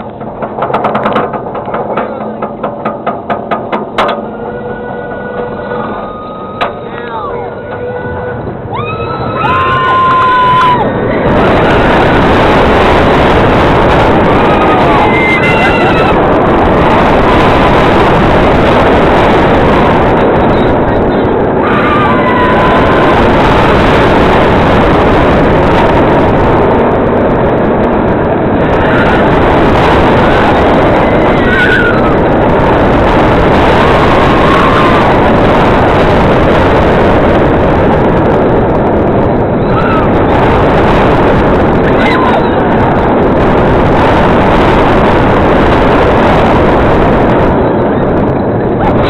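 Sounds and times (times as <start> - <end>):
roller coaster rumbling on track: 0.0 - 49.0
wind rushing over microphone: 0.0 - 49.0.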